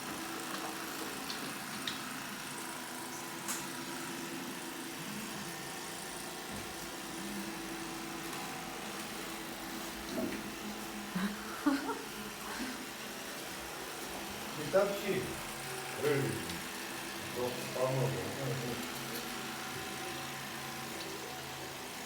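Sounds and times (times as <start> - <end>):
vacuum cleaner motor humming: 0.0 - 22.0.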